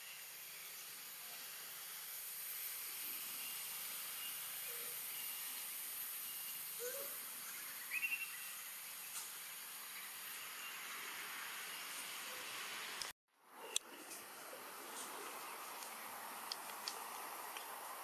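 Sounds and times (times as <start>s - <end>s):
high-pitched forest hiss: 0.0s - 18.0s.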